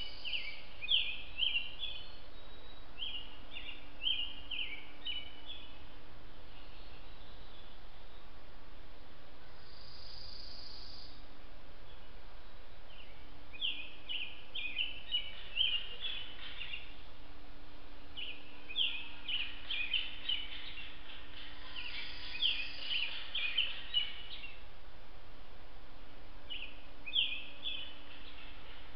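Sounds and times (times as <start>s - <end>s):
faint steady hum: 0.0s - 28.9s
songbird singing: 0.0s - 28.9s
steady hiss: 0.0s - 28.9s.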